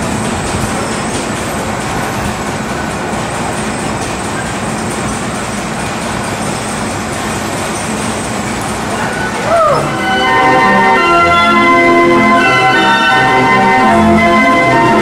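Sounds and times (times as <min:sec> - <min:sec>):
carousel mechanical rumble: 0:00.0 - 0:15.0.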